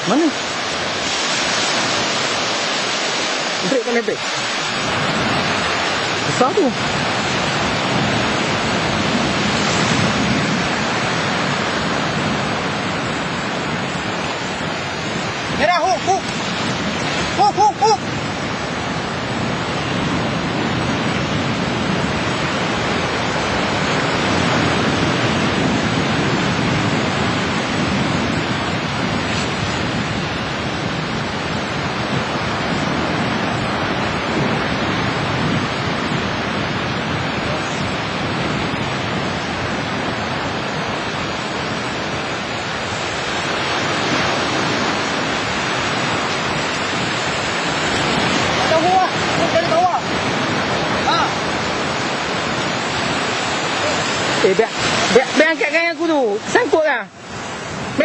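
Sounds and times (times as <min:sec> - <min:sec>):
sea surf washing onto beach: 0:00.0 - 0:58.0
wind on microphone: 0:00.0 - 0:58.0.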